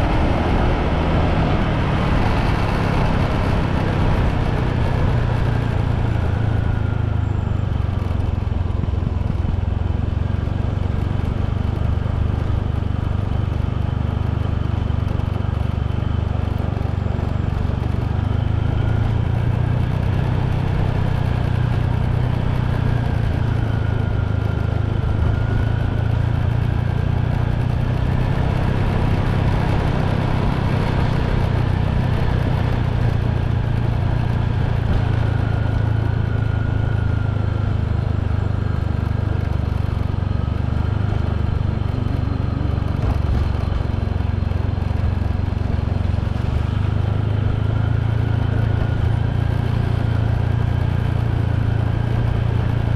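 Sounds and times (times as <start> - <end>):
motorbike engine running: 0.0 - 52.9
road and wind noise: 0.0 - 52.9.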